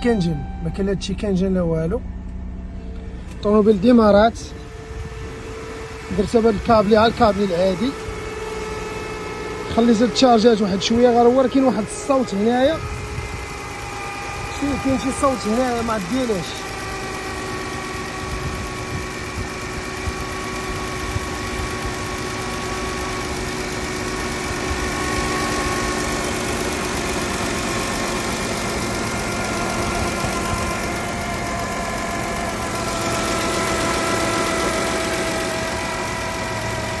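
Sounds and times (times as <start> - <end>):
minivan engine idling: 0.0 - 37.0
multi-tone whine: 0.0 - 37.0.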